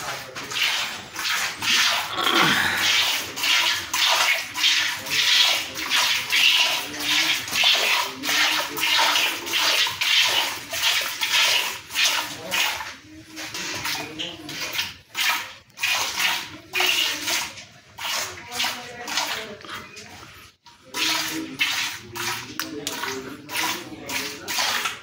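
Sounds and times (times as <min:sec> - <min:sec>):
milk squirting into metal pail: 0:00.0 - 0:25.0.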